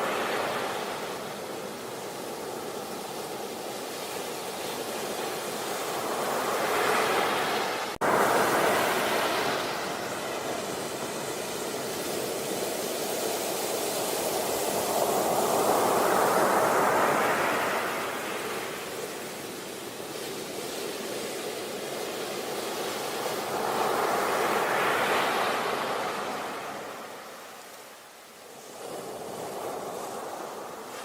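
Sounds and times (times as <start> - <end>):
sea waves on a beach: 0.0 - 31.0.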